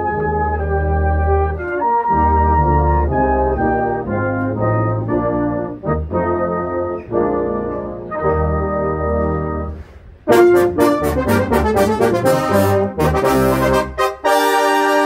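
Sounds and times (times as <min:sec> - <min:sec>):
brass band playing a march: 0:00.0 - 0:15.0.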